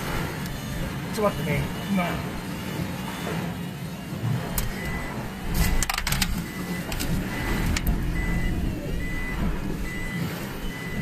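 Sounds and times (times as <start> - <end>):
car engine rumbling: 0.0 - 11.0
car warning beeps: 0.0 - 11.0.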